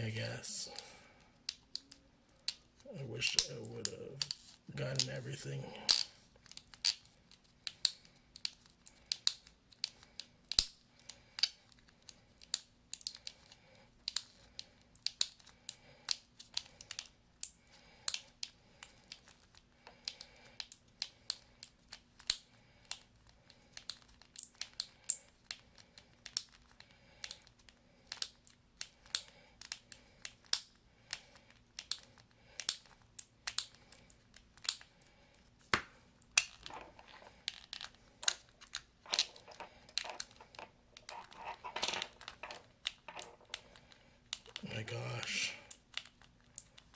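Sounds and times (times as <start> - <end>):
small tools clicking on phone: 0.8 - 5.2, 5.9 - 35.3, 36.2 - 44.6, 45.7 - 46.9.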